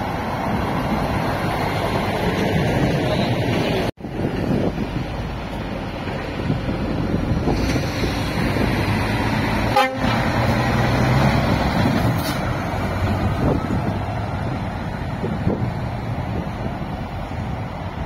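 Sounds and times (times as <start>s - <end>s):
lorry diesel engine passing: 0.0s - 18.0s.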